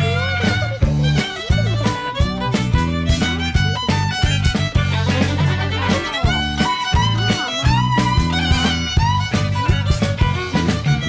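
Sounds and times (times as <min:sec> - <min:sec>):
pop music with fiddle melody: 0:00.0 - 0:11.0.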